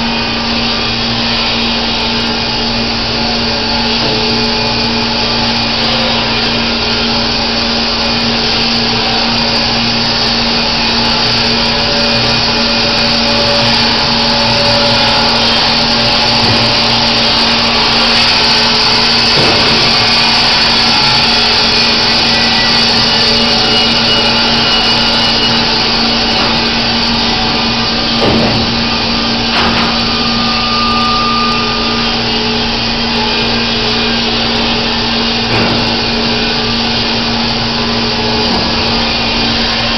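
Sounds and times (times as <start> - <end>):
band sawmill whirring: 0.0 - 39.9.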